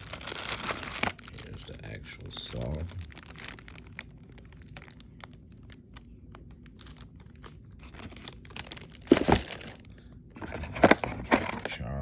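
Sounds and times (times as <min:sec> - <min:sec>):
packaging crinkling: 0:00.0 - 0:11.8.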